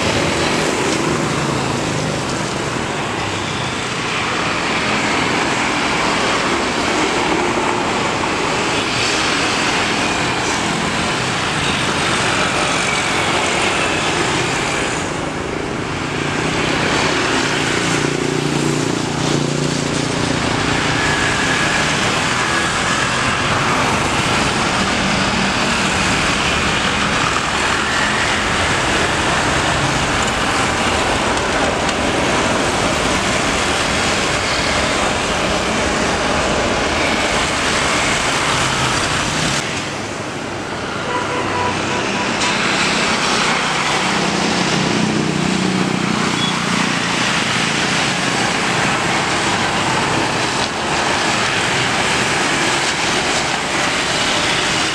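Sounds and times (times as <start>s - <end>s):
jet engines at takeoff thrust: 0.0s - 54.9s.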